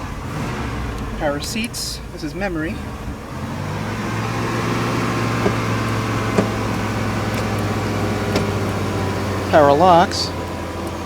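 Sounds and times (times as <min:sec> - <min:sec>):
seat motor humming: 0:00.0 - 0:11.0.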